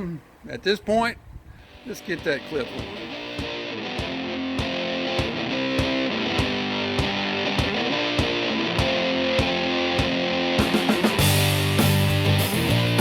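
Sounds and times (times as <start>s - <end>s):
rock music: 1.8s - 13.0s.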